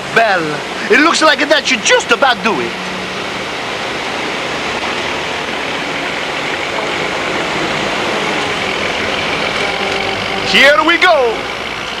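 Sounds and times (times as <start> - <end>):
construction machinery rushing noise: 0.0 - 12.0
faint engine hum: 0.0 - 12.0.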